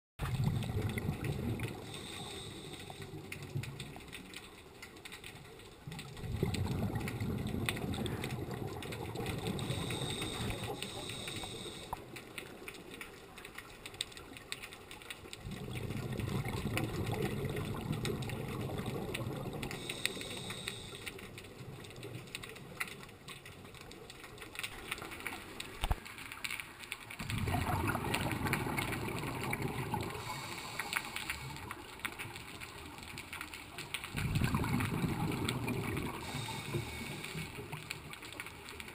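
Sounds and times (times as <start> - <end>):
rushing gurgling underwater noise: 0.2 - 38.9.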